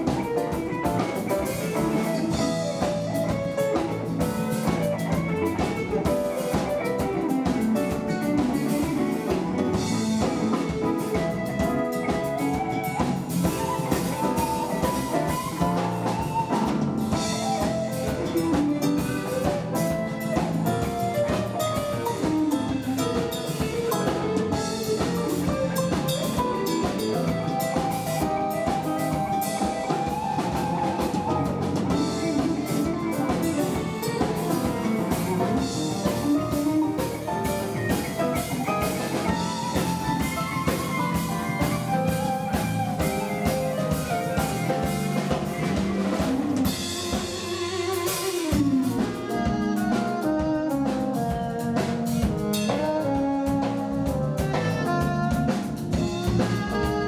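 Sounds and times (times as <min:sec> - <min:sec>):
drum kit: 0:00.0 - 0:57.0
electric bass: 0:00.0 - 0:57.0
electric guitar melodic runs: 0:00.0 - 0:57.0.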